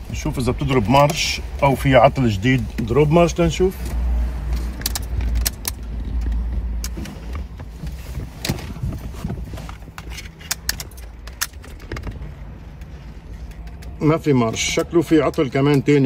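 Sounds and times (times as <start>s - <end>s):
ignition clicks: 0.2s - 16.0s.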